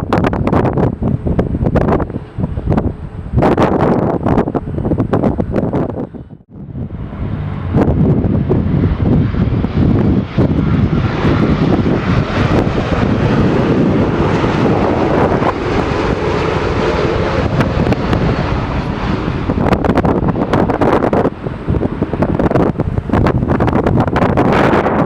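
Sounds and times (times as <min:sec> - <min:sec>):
jet airliner landing: 0:00.0 - 0:25.0.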